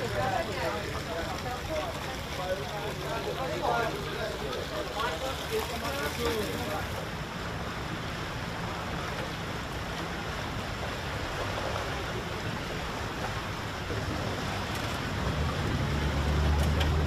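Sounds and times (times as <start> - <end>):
floodwater rushing: 0.0 - 17.0
low engine hum: 0.0 - 17.0
wind: 0.0 - 17.0.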